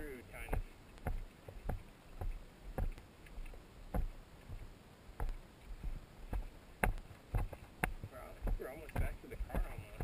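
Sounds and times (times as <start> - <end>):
footsteps on gravel: 0.0 - 10.0.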